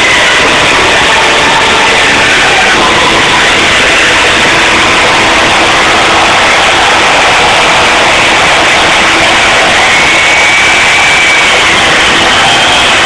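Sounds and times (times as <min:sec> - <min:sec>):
distorted rock concert roar: 0:00.0 - 0:13.0.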